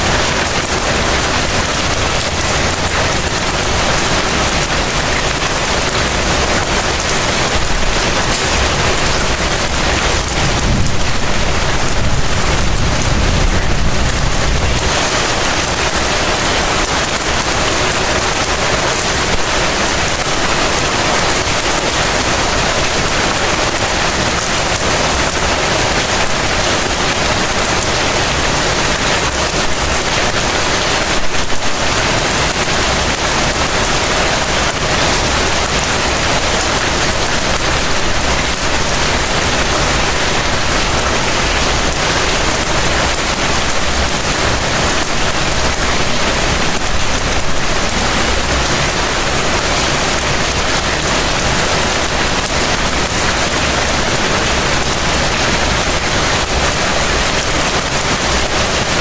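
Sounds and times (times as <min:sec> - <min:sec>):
heavy rain on surfaces: 0:00.0 - 0:59.0.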